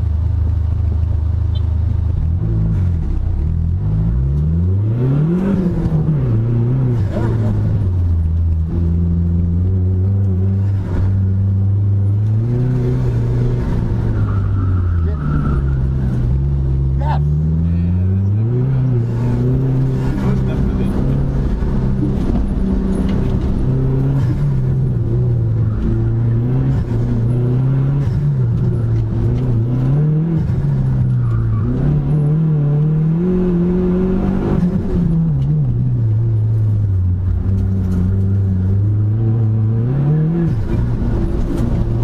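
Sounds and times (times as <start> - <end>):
car engine revving: 0.6 - 42.0.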